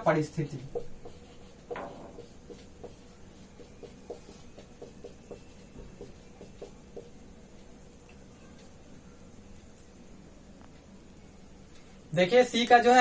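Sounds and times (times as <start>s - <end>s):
faint writing strokes: 0.0s - 12.0s.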